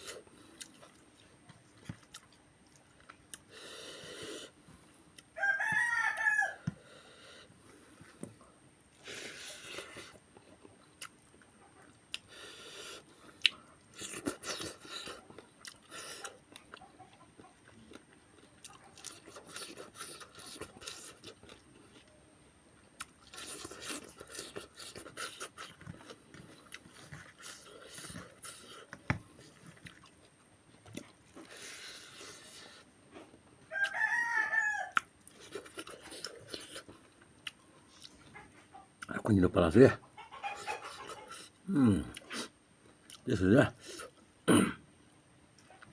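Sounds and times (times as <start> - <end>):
chewing and crunching: 0.0 - 6.3, 7.6 - 22.2, 22.8 - 39.3, 40.2 - 44.4.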